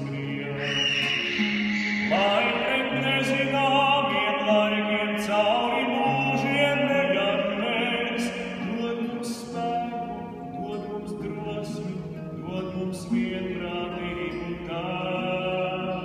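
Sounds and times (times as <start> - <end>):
classical guitar low notes: 0.0 - 16.0
man singing with vibrato: 0.0 - 16.0.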